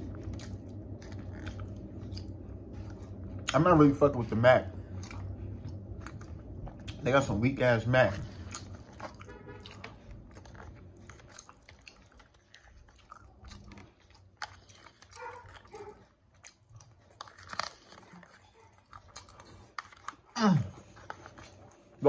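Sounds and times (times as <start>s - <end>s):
man chewing food: 0.0s - 22.0s.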